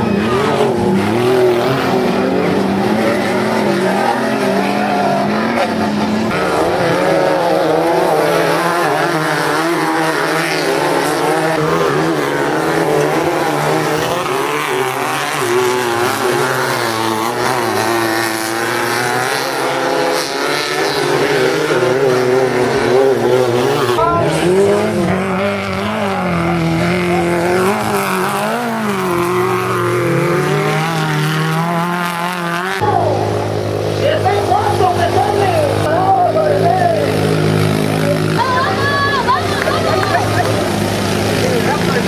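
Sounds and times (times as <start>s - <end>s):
buggy engines revving: 0.0s - 42.0s.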